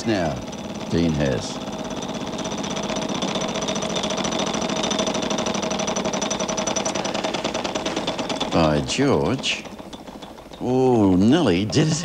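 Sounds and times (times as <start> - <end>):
prize wheel clicking: 0.0 - 12.0.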